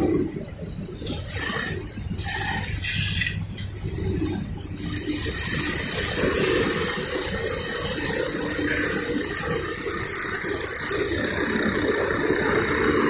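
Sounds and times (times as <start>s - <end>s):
heavy machinery running: 0.0s - 13.0s.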